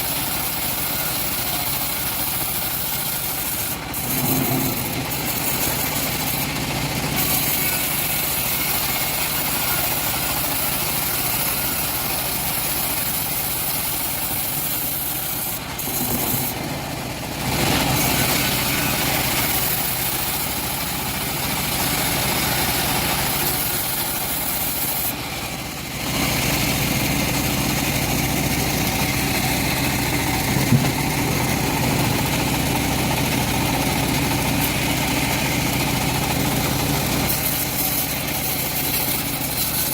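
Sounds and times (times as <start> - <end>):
engine-driven bandsaw mill sawing: 0.0 - 39.9.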